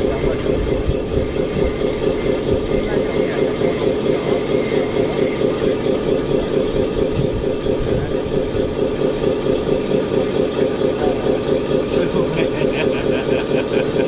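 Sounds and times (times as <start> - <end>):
toy dump truck motor drone: 0.0 - 14.0.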